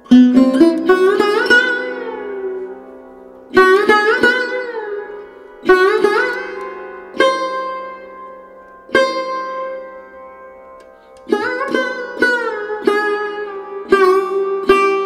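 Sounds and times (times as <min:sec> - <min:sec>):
plucked string instrument notes: 0:00.0 - 0:15.0.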